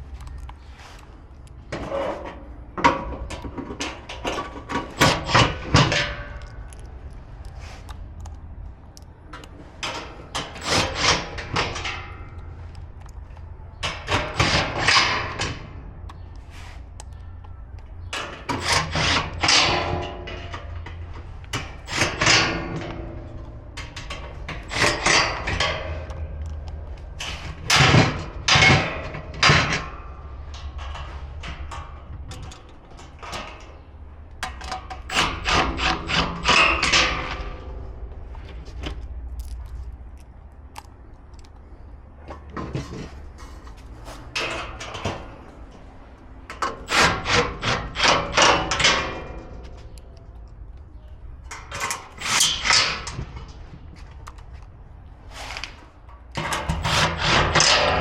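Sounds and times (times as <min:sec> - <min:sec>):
grill parts knocking and clicking: 0:01.4 - 0:16.4, 0:17.0 - 0:37.8, 0:38.4 - 0:55.0, 0:55.6 - 0:58.0.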